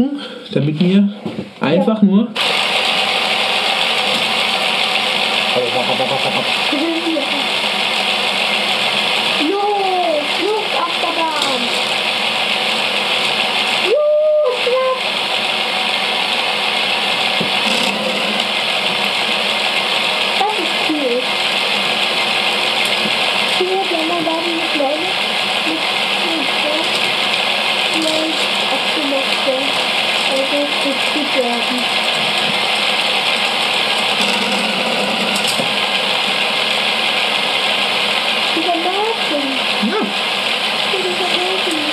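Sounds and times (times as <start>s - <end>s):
toy roller coaster rattling: 2.4s - 41.9s.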